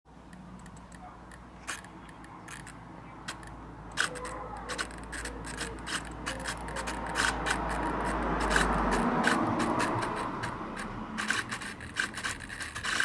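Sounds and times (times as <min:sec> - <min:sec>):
fingers clicking connectors: 0:00.2 - 0:13.0.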